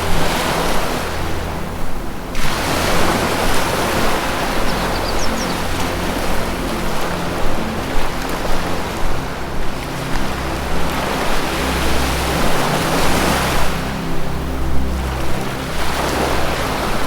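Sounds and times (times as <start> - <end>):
ambient music: 0.0 - 17.0
ocean surf washing ashore: 0.0 - 17.0.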